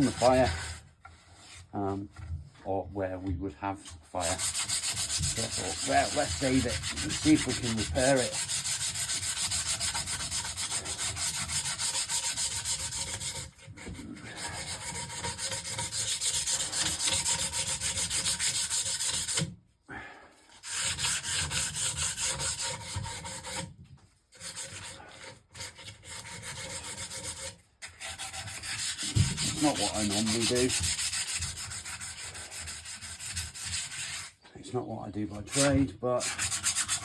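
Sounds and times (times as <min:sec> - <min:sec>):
sandpaper rubbing on wood: 0:00.0 - 0:02.1, 0:03.8 - 0:19.5, 0:20.6 - 0:23.7, 0:24.3 - 0:34.4, 0:35.2 - 0:37.0.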